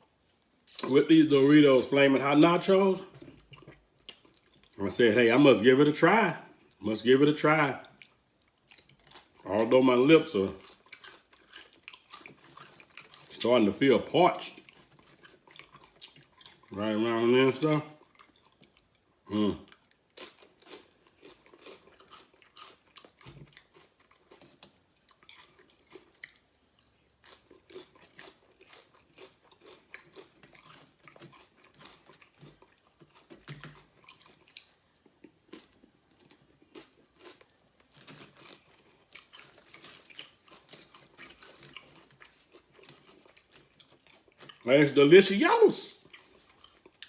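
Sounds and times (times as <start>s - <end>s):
crunching and chewing chips: 1.8s - 5.5s, 6.1s - 47.0s.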